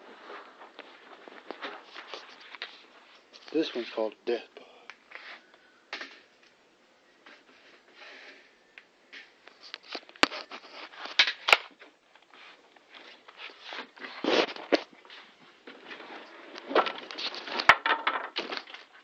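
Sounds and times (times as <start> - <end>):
rustling and handling noise: 0.0 - 4.4, 5.0 - 6.6, 7.2 - 19.0.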